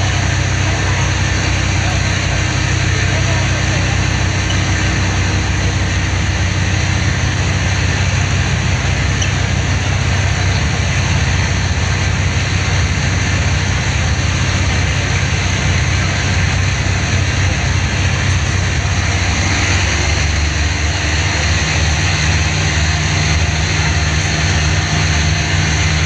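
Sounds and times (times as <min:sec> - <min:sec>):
ferry engines droning: 0:00.0 - 0:26.0.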